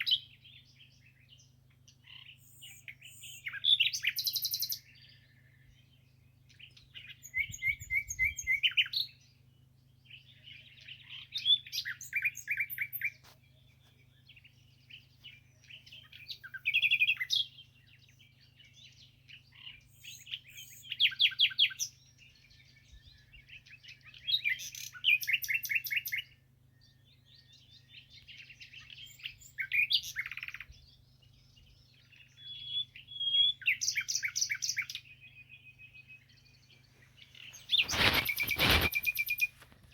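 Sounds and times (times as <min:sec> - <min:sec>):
songbird trilling: 0:00.0 - 0:09.4, 0:10.0 - 0:39.9.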